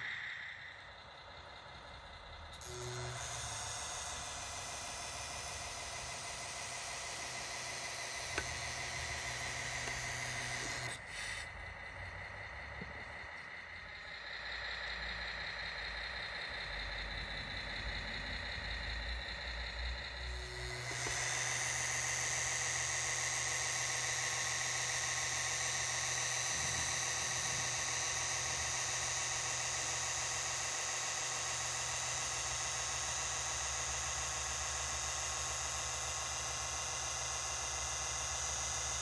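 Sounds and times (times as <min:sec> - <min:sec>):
model truck motor humming: 0:00.0 - 0:39.0.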